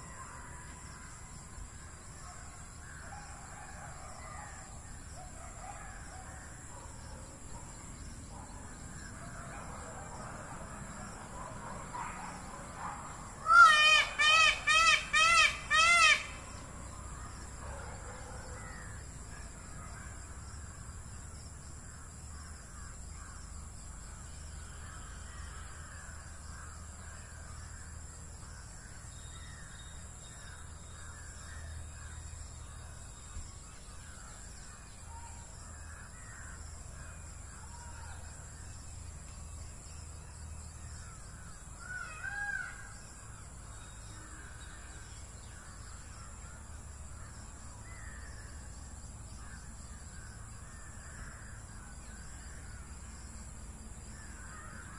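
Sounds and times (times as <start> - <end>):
bird chorus: 0.0 - 54.9.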